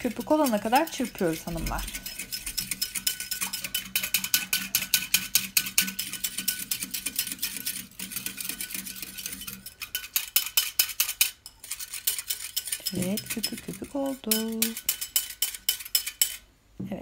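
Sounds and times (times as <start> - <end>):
whisk clicking against bowl: 0.0 - 16.4.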